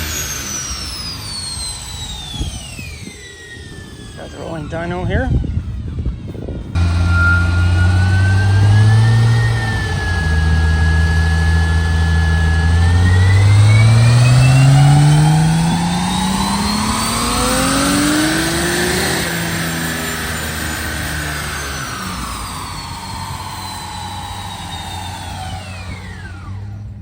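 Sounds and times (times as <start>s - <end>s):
car engine revving: 0.0s - 5.3s, 6.6s - 27.0s
high whine: 0.0s - 27.0s.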